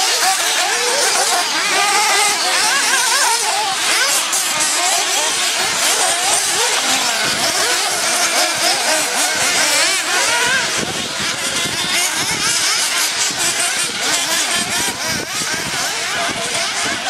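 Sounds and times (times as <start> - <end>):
small nitro engines revving: 0.0 - 17.0.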